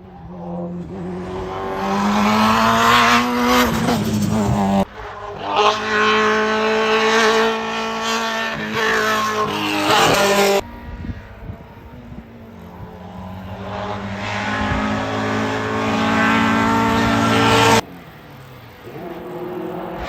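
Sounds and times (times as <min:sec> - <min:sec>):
race car engine accelerating: 0:00.0 - 0:20.0
race car engine at high revs: 0:00.0 - 0:20.0.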